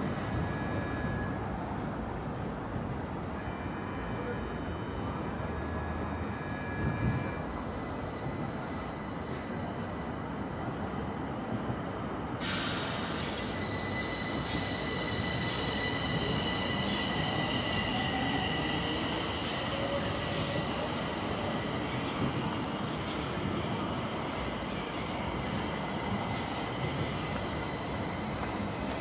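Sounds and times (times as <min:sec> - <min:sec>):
metro train running: 0:00.0 - 0:29.0
wheels squealing on rails: 0:00.0 - 0:29.0.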